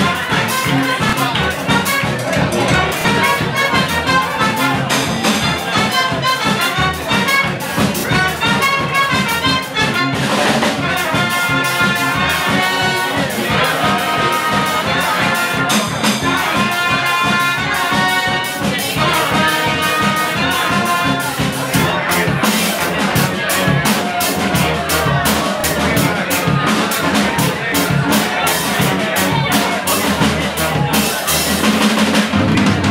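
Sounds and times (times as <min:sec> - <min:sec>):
steady beat: 0:00.0 - 0:32.9
trumpets and trombones: 0:00.0 - 0:32.9
tuba bass: 0:00.0 - 0:32.9.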